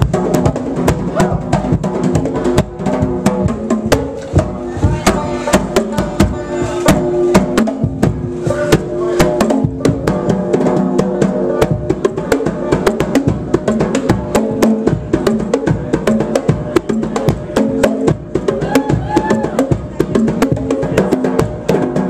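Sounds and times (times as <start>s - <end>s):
timbales and congas solo: 0.0s - 22.0s
band holding notes: 0.9s - 20.1s.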